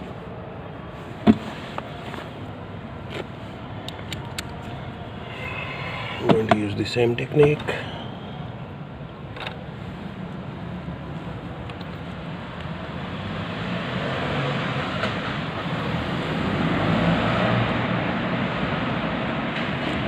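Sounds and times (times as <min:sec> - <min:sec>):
road traffic rushing: 0:00.0 - 0:20.0.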